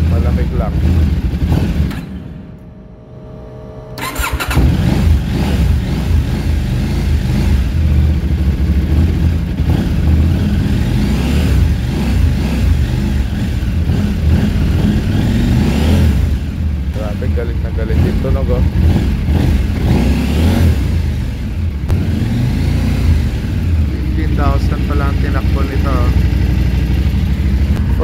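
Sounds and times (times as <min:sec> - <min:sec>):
motorcycle engine cranking and idling: 0:00.0 - 0:02.7, 0:04.0 - 0:28.0.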